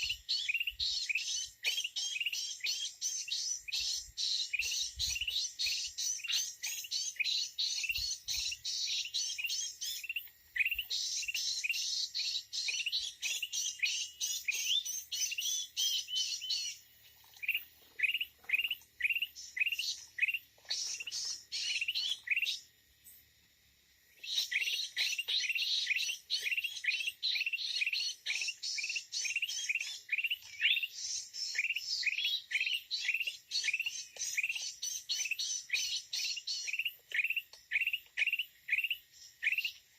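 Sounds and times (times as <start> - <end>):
birds chirping: 0.0 - 22.7, 24.1 - 39.8.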